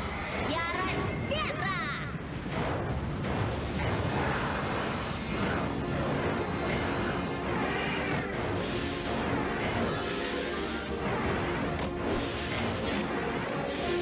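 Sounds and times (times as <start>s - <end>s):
dramatic cartoon action music: 0.0s - 14.0s.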